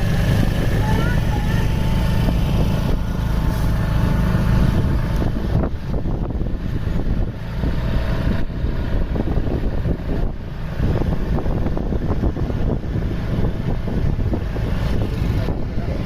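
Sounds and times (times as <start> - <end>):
road and wind noise: 0.0 - 16.0
vehicle engine rumble: 0.0 - 16.0.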